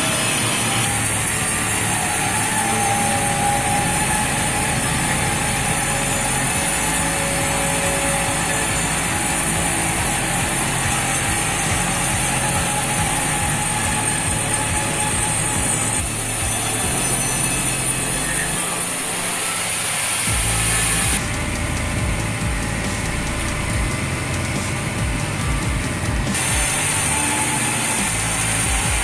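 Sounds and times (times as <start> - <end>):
heavy machine engine running: 0.0 - 29.0.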